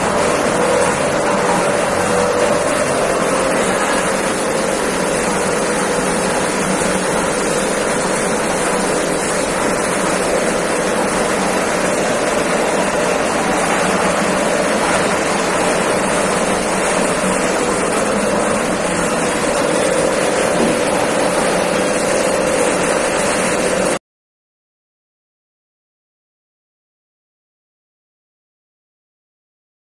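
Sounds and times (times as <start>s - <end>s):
industrial machinery hum: 0.0s - 24.0s.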